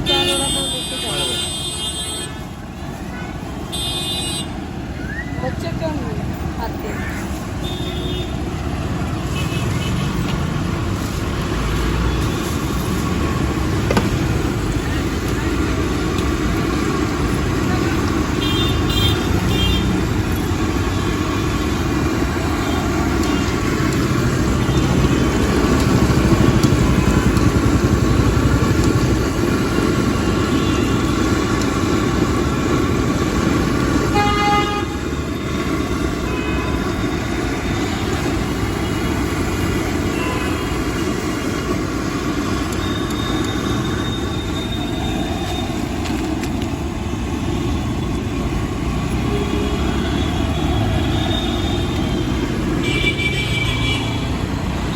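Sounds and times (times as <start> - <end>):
rumble of passing vehicles: 0.0 - 54.9.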